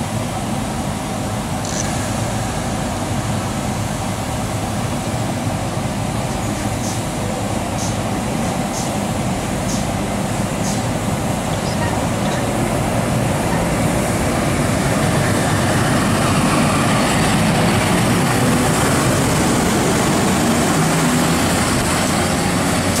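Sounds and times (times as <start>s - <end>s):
electric locomotive hum: 0.0s - 23.0s.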